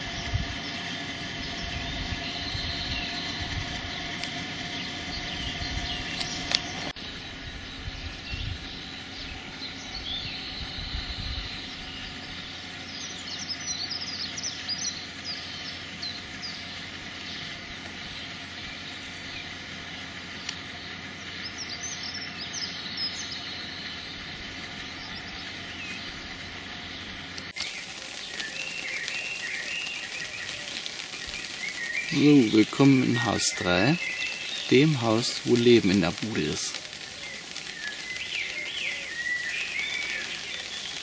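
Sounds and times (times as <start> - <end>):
birds chirping and singing: 0.0 - 41.0
engine-like hum: 0.0 - 41.0
low rumbling: 0.0 - 41.0.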